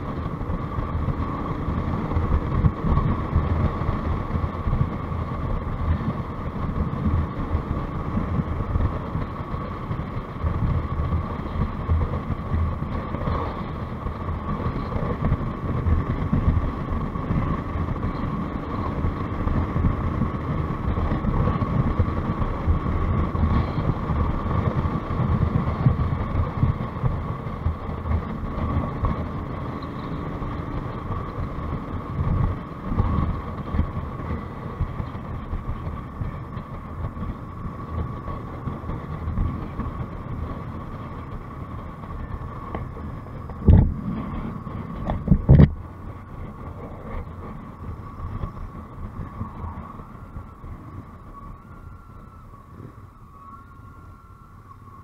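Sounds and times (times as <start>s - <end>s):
motorcycle engine rumble: 0.0s - 55.0s
wind rushing over microphone: 0.0s - 55.0s.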